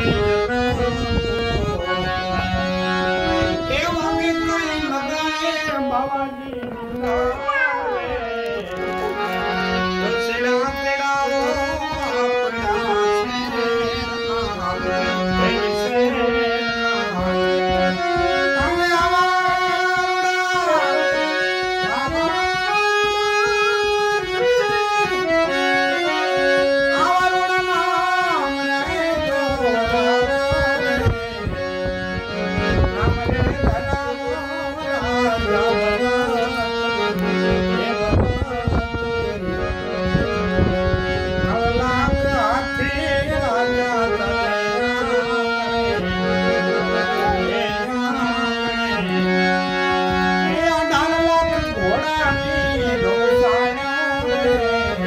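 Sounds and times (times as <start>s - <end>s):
harmonium playing melody: 0.0s - 55.0s
man singing: 0.0s - 55.0s.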